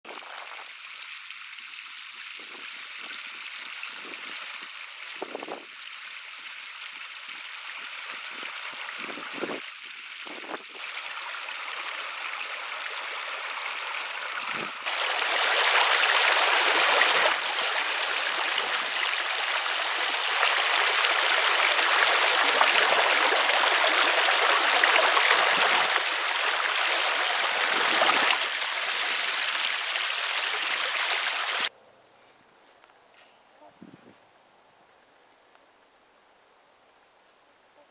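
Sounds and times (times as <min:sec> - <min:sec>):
stream running over rocks: 0:00.1 - 0:31.7.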